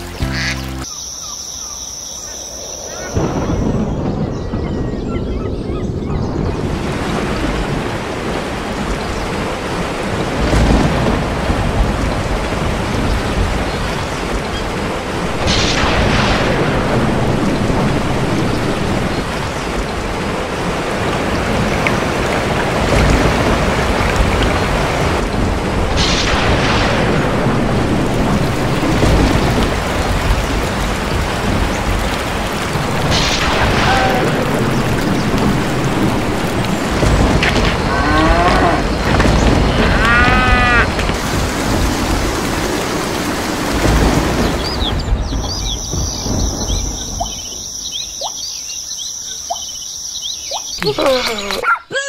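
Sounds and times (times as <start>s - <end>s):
steady rain: 0.0s - 52.0s
thunder rolling and cracking: 2.8s - 47.9s.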